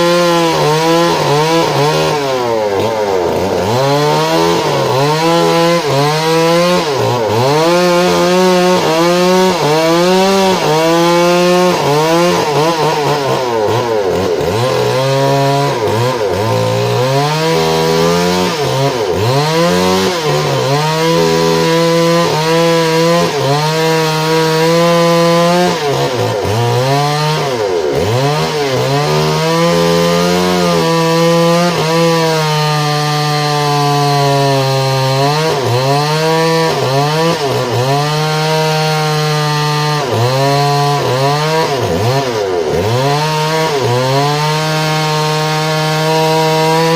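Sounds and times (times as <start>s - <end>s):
petrol saw cutting log: 0.0s - 46.9s.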